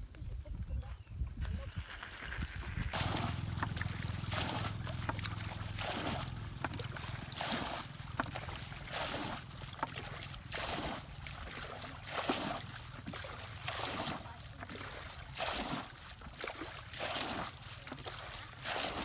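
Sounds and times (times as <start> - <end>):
bucket scooping water: 1.4 - 19.0
water splashing and pouring: 1.4 - 19.0.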